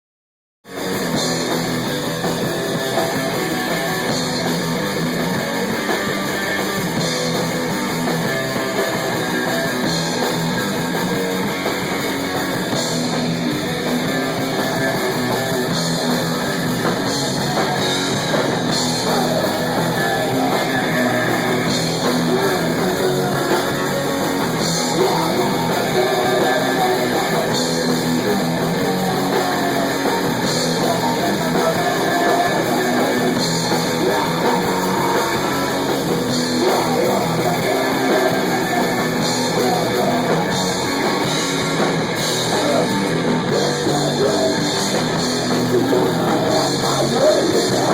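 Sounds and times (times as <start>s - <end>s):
drums: 0.6s - 47.9s
guitar: 0.6s - 47.9s.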